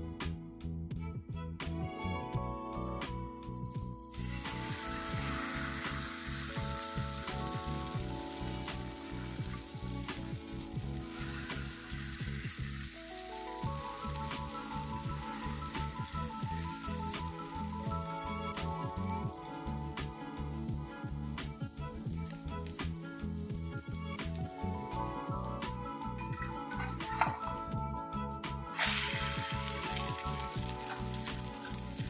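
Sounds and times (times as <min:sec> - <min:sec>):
background music: 0:00.0 - 0:32.0
batter sizzling in frying pan: 0:03.6 - 0:28.0, 0:28.7 - 0:32.0.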